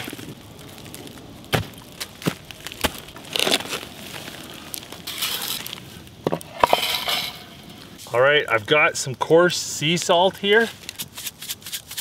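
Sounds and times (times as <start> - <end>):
stick scraping coals on stones: 0.0 - 8.7, 9.9 - 12.0
coals crackling: 0.0 - 12.0.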